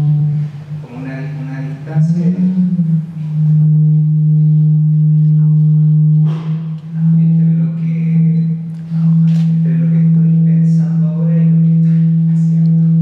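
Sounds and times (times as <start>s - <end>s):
low electronic drone: 0.0s - 13.0s.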